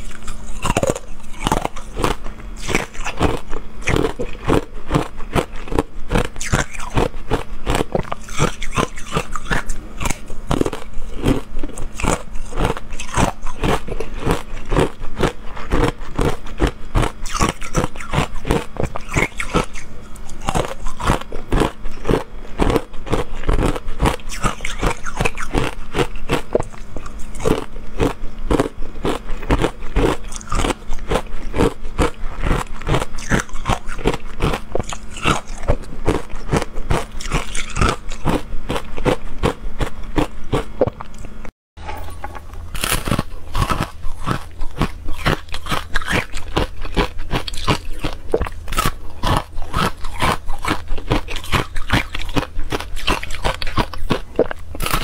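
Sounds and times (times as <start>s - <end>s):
crunching ice between teeth: 0.0s - 41.3s, 42.7s - 55.0s
faint low hum: 0.0s - 55.0s.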